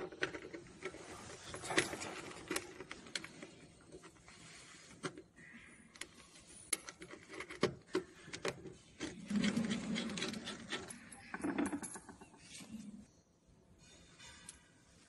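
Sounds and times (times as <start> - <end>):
rubbing and handling noise: 0.0 - 13.2.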